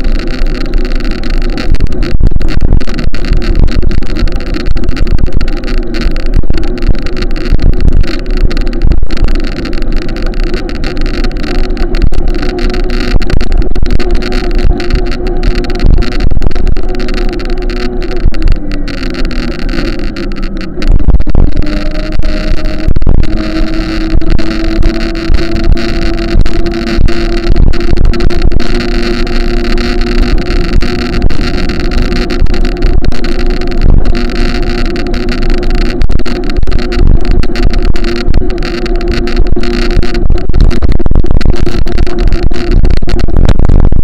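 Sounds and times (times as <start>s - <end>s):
engine running: 0.0s - 44.0s.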